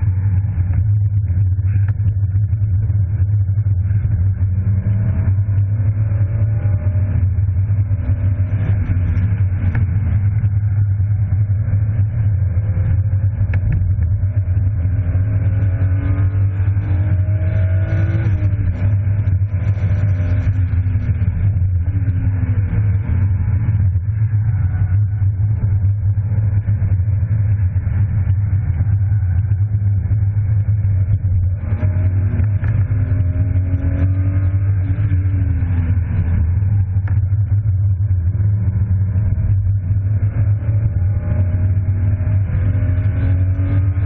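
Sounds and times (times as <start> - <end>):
car engine revving: 0.0 - 44.0
steady low drone: 0.0 - 44.0.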